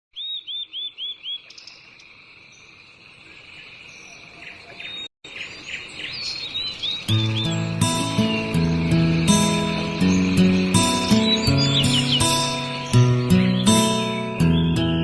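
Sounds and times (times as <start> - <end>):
bird chirping: 0.1 - 15.0.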